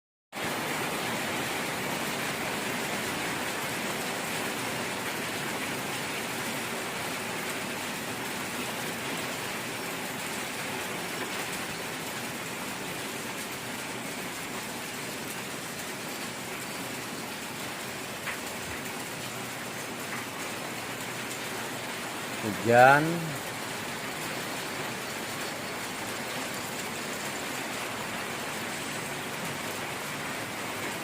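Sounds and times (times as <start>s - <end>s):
steady rain falling: 0.3s - 31.0s.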